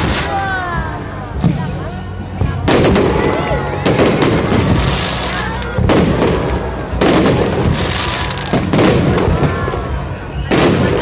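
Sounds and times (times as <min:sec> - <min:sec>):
firework bursts: 0:00.0 - 0:00.7, 0:02.5 - 0:11.0
firework crackle: 0:00.0 - 0:01.0, 0:02.5 - 0:11.0.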